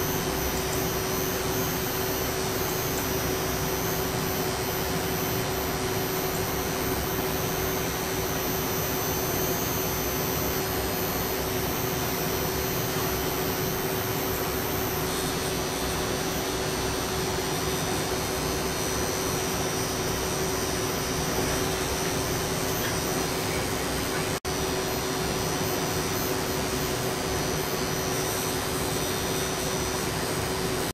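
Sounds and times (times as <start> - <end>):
constant low hum: 0.0 - 30.9
equipment cooling fans whirring: 0.0 - 30.9.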